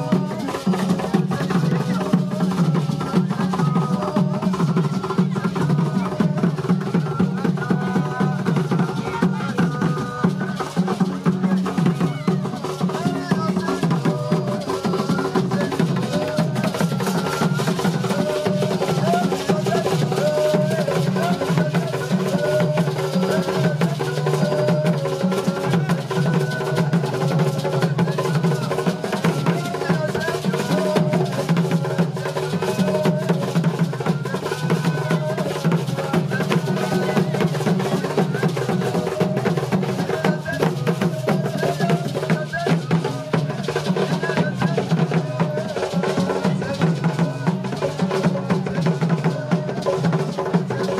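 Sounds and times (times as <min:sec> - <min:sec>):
dense drumming and percussion: 0:00.0 - 0:50.9.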